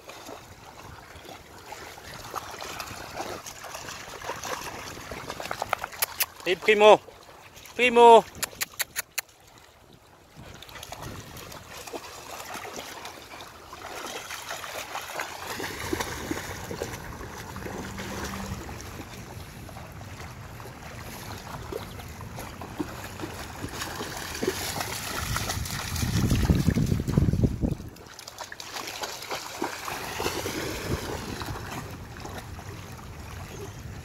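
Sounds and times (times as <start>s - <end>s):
dog walking through water: 0.0s - 34.0s
water splashing and lapping: 0.0s - 34.0s.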